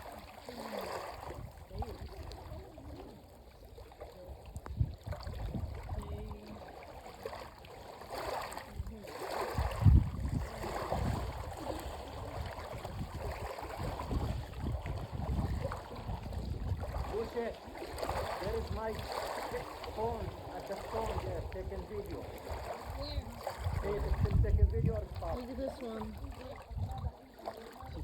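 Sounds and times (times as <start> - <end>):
water lapping at shore: 0.0 - 28.0
wind on microphone: 0.8 - 3.1, 4.2 - 6.6, 8.1 - 27.2, 27.8 - 28.0.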